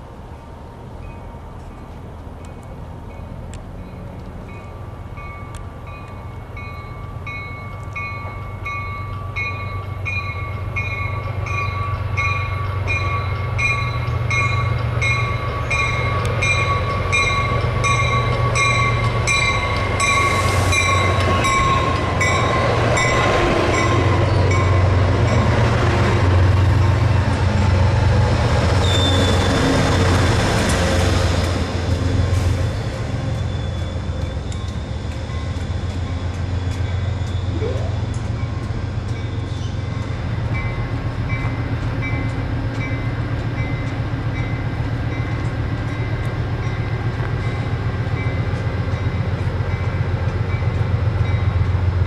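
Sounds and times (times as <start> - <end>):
diesel train passing: 0.0 - 52.0.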